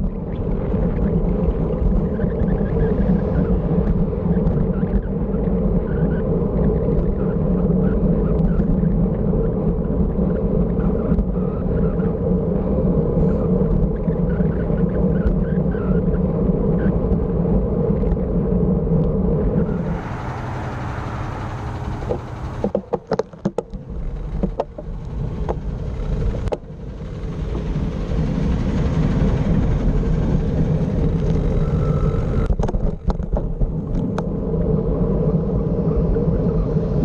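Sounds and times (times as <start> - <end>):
bicycle tyre noise: 0.0 - 37.0
wind buffeting microphone: 0.0 - 37.0.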